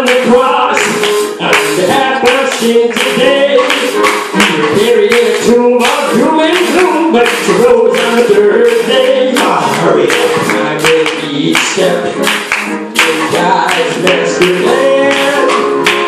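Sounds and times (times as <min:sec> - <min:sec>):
steady clapping beat: 0:00.0 - 0:16.0
voices singing over music: 0:00.0 - 0:16.0.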